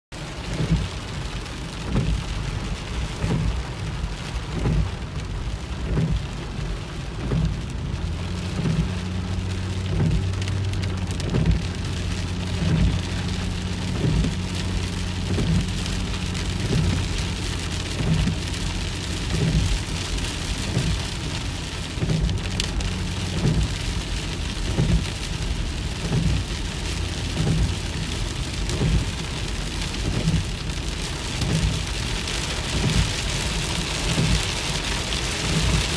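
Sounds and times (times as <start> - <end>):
heavy rain on car: 0.1 - 35.9
windscreen wiper thumps: 0.2 - 35.9.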